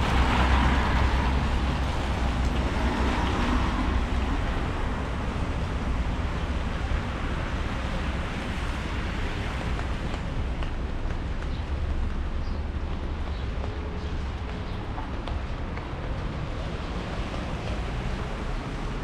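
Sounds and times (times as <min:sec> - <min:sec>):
rain hiss on wet street: 0:00.0 - 0:19.0.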